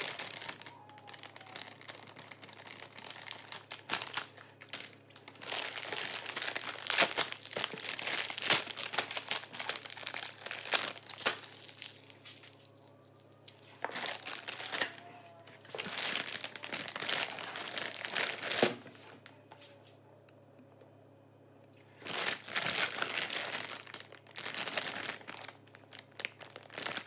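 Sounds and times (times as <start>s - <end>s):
plastic food packaging crinkling: 0.0s - 19.0s, 21.9s - 27.0s.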